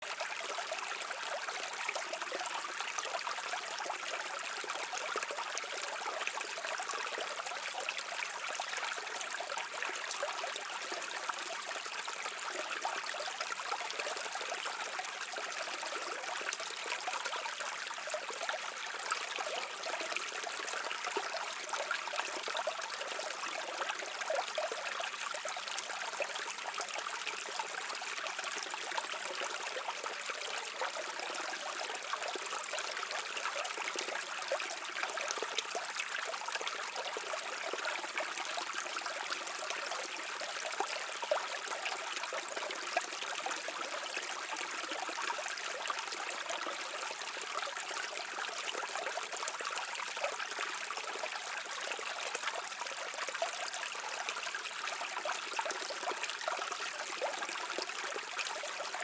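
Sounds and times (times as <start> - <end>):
small stream trickling: 0.0 - 59.0.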